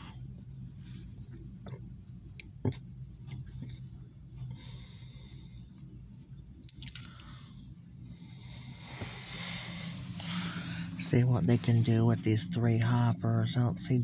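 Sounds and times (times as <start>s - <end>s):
low hum inside car: 0.0s - 14.0s.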